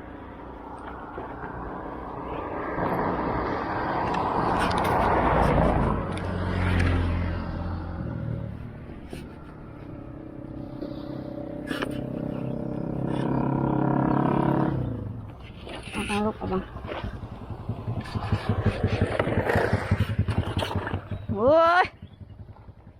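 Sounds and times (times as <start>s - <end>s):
passing traffic rush: 0.0s - 22.9s.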